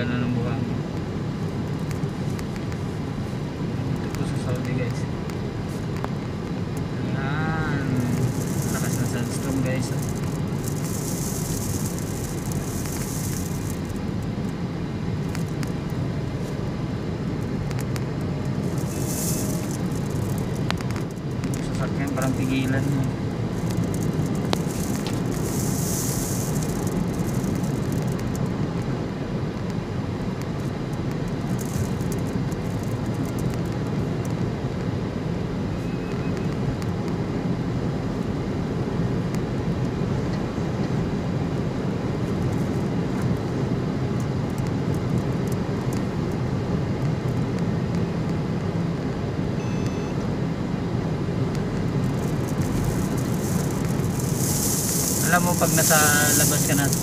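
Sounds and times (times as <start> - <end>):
road and engine noise in car: 0.0 - 57.0.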